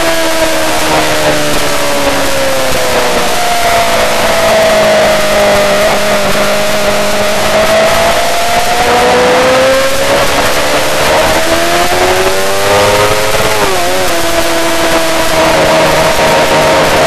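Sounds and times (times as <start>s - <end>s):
heavy wind rush: 0.0s - 17.0s
motorcycle engine accelerating: 0.0s - 17.0s.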